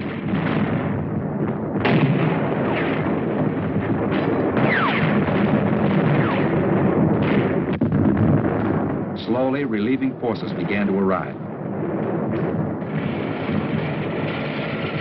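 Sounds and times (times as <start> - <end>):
gunfire and artillery: 0.0 - 15.0
loud explosion blasts: 0.0 - 15.0.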